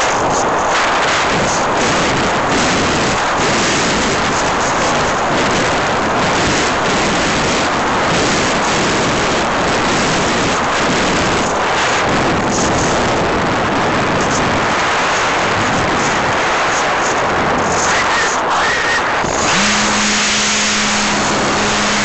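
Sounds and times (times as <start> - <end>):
wind and airframe noise: 0.0 - 22.0.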